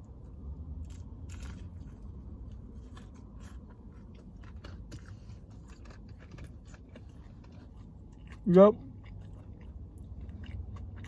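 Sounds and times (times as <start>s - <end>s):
person chewing food: 0.8s - 11.0s.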